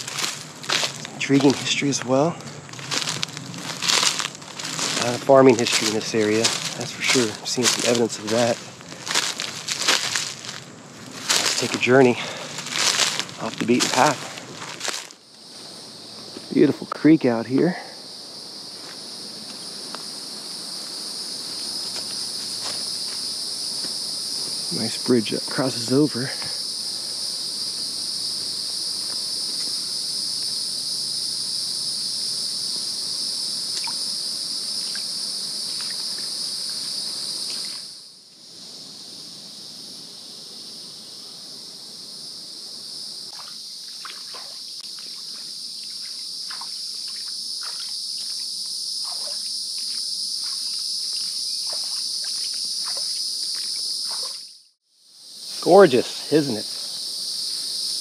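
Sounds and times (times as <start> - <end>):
insects droning high-pitched: 0.0 - 58.0.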